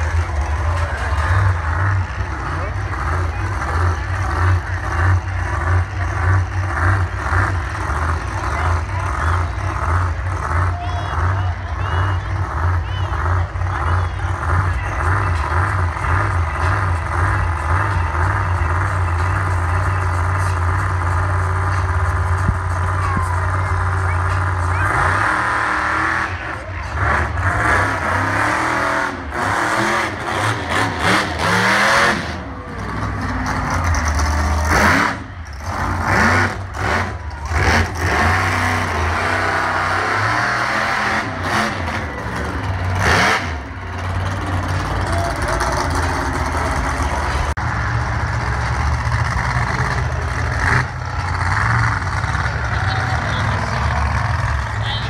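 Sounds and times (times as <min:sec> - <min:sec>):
monster truck engine revving: 0:00.0 - 0:55.0.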